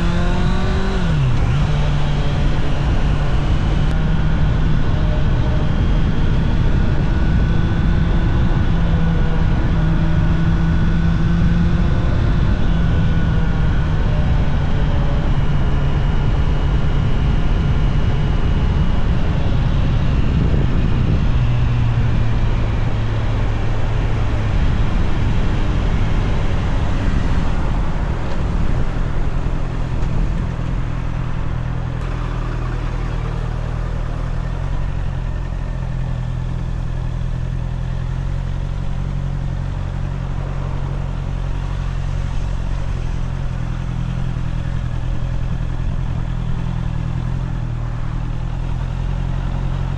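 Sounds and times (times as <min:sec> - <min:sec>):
motorcycle engine running: 0:00.0 - 0:15.9, 0:18.2 - 0:49.9.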